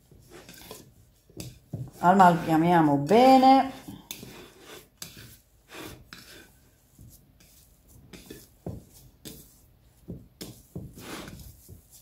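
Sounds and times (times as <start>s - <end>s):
dough squishing: 0.0s - 12.0s.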